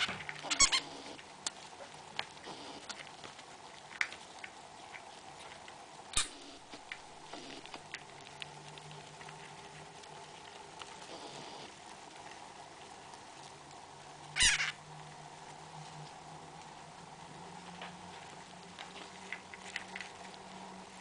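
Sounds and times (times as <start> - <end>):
hamsters rustling in bedding: 0.0 - 21.0.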